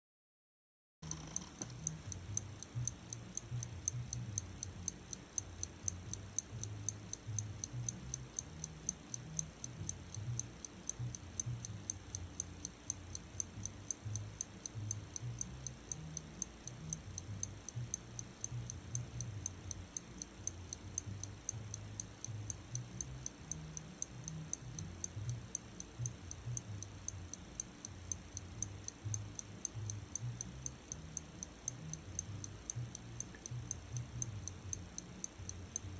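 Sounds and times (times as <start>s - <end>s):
pocket watch ticking: 1.0s - 35.9s.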